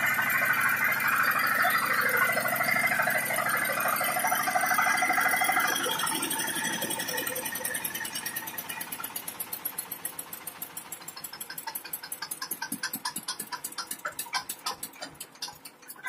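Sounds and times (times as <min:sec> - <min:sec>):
diesel generator engine running: 0:00.0 - 0:16.0.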